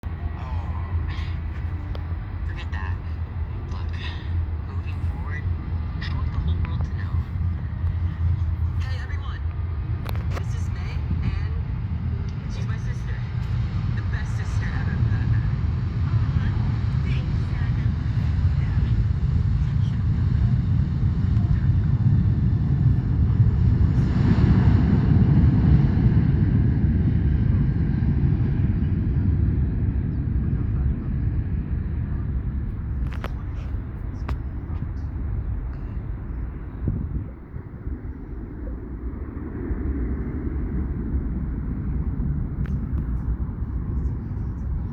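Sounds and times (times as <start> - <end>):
jet engines rumbling at takeoff: 0.0 - 44.9.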